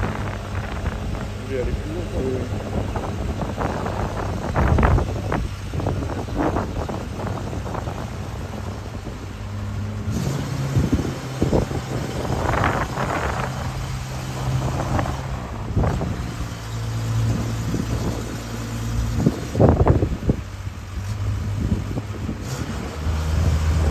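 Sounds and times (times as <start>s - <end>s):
truck engines idling: 0.0s - 23.9s
wind buffeting microphone: 0.0s - 23.9s.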